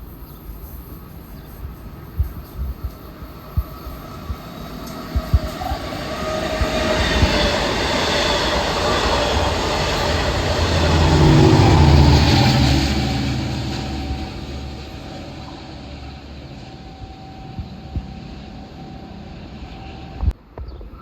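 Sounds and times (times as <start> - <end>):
train rumbling past: 0.0 - 20.5.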